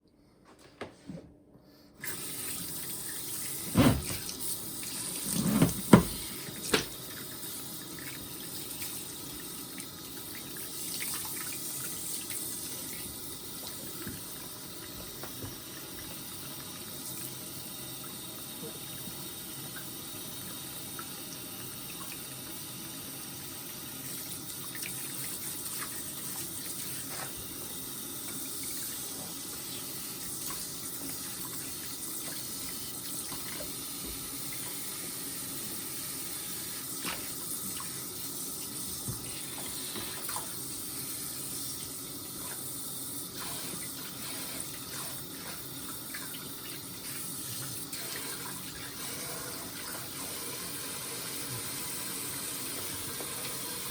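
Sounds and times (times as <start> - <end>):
running water pouring: 2.0 - 53.9.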